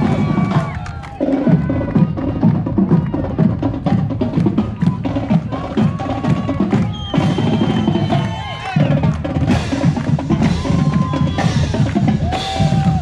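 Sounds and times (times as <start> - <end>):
drumline drum cadence: 0.0 - 13.0.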